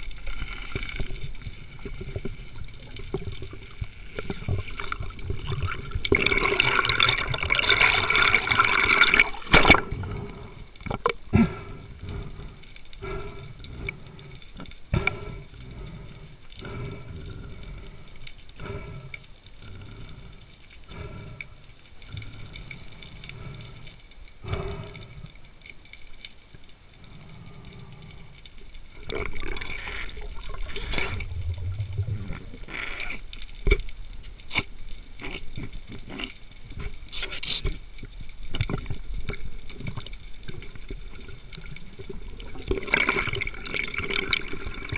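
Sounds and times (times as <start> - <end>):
water rushing and bubbling: 0.0 - 37.1, 37.8 - 44.9.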